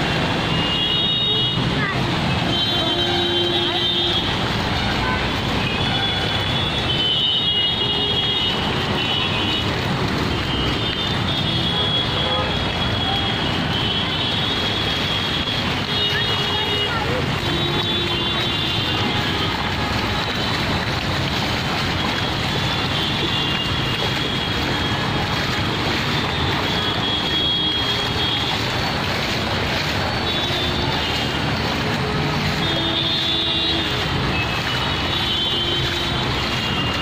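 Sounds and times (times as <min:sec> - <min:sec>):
feet wading through water: 0:00.0 - 0:37.0
traffic on a flooded road: 0:00.0 - 0:37.0.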